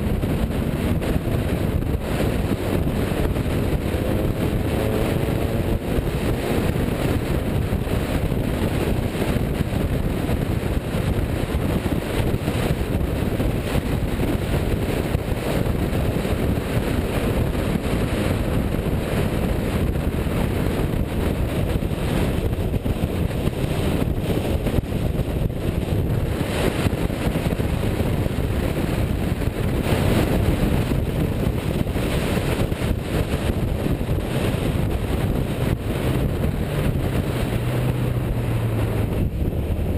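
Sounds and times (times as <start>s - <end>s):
car engine running: 0.0s - 39.9s
wind buffeting microphone: 0.0s - 39.9s.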